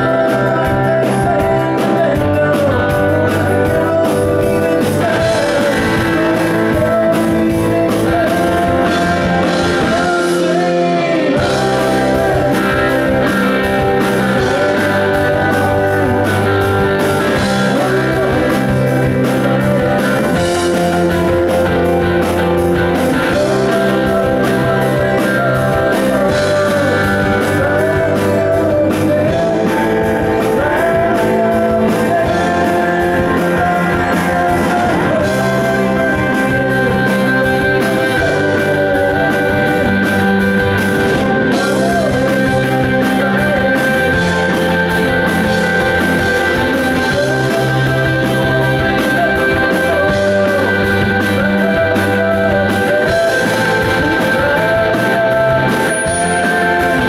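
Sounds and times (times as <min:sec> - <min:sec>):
man singing: 0:00.0 - 0:57.0
rock band playing: 0:00.0 - 0:57.0.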